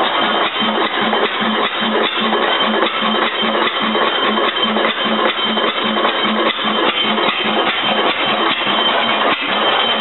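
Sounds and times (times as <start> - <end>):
engine running with even beat: 0.0 - 10.0.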